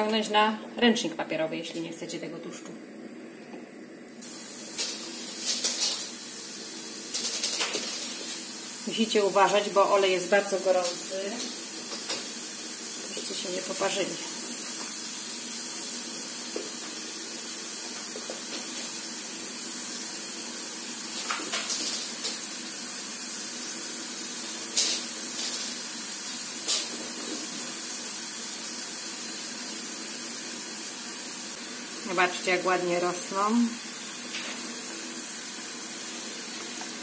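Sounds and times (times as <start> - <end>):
dough deep-frying in oil: 4.1 - 37.0.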